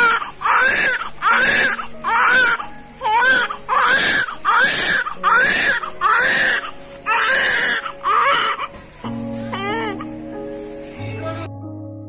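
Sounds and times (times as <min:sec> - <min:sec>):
newborn baby crying: 0:00.0 - 0:10.3.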